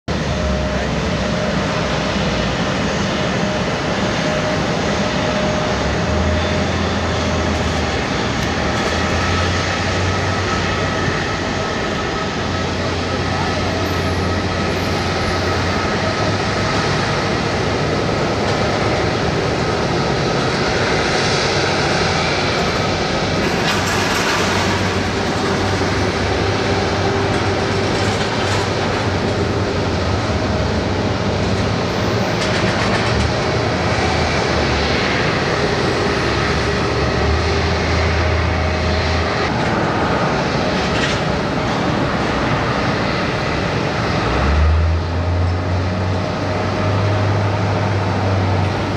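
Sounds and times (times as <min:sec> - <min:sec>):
faint engine whine: 0:00.1 - 0:48.9
jet engines at taxi power: 0:00.1 - 0:48.9.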